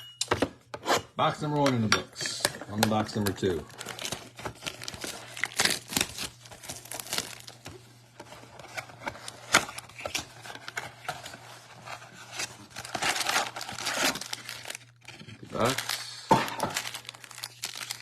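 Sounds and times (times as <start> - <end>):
plastic wrapping crinkling and tearing: 2.7 - 18.0.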